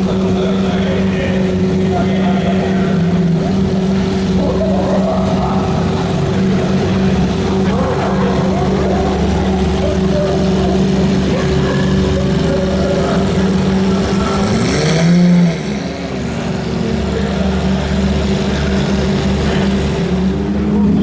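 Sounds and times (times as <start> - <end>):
engine revving: 0.0 - 21.0
supercar engines idling: 0.0 - 21.0.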